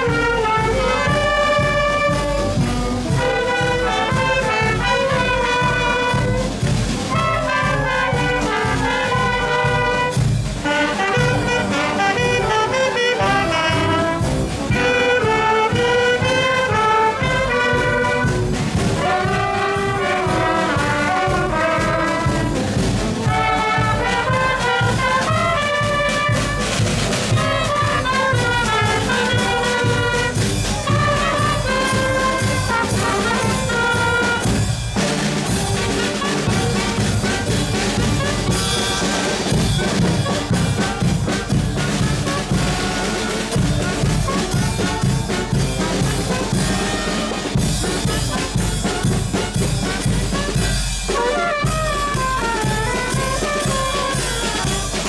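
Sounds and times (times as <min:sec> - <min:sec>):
brass melody: 0:00.0 - 0:55.0
steady drum beat: 0:00.0 - 0:55.0.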